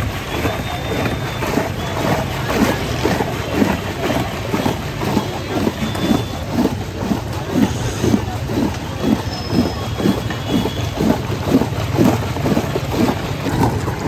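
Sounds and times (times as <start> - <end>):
ladle churning ice in metal pot: 0.0 - 14.0.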